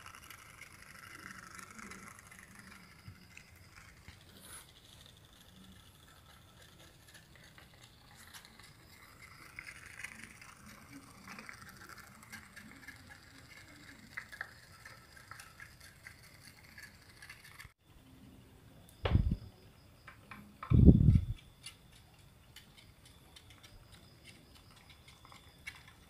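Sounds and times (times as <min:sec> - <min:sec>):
toy steam boat puttering: 0:00.0 - 0:17.8, 0:20.0 - 0:26.0.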